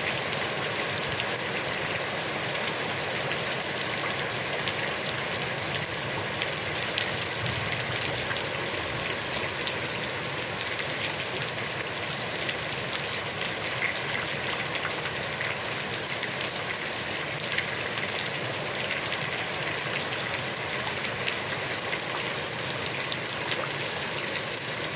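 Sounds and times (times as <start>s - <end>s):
heavy rain on pond: 0.0s - 24.9s.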